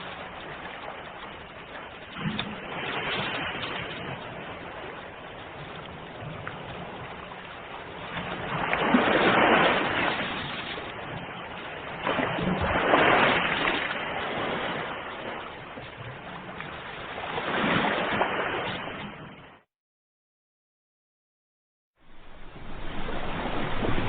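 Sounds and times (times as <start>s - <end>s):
ocean waves breaking: 0.0s - 19.7s, 22.0s - 24.0s.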